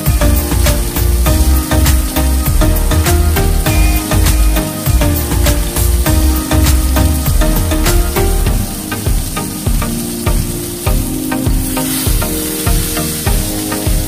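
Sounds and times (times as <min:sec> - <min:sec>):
background music with steady beat: 0:00.0 - 0:14.0
steak sizzling in a skillet: 0:00.0 - 0:14.0.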